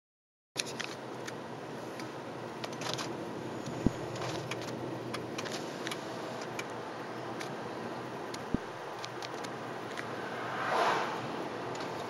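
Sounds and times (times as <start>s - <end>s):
road and engine noise: 0.6s - 12.0s.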